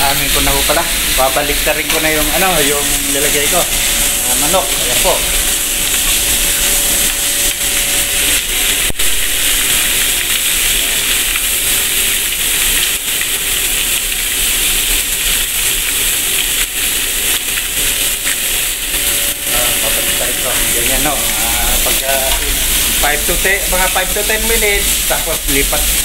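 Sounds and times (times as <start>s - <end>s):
chicken sizzling in grill pans: 0.0s - 26.0s.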